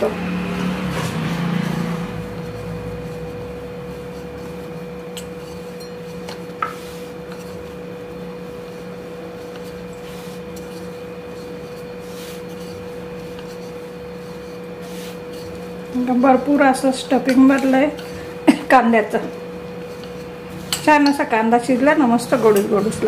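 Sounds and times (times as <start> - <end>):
rolling pin rubbing on dough: 0.0 - 23.0
steady low hum: 0.0 - 23.0.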